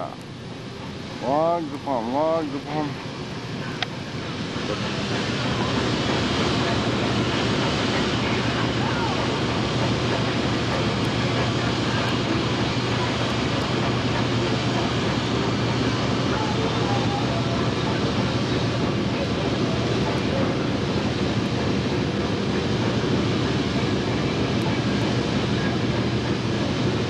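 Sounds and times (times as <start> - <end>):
low machine hum: 0.0 - 27.0
sawmill machinery din: 0.0 - 27.0.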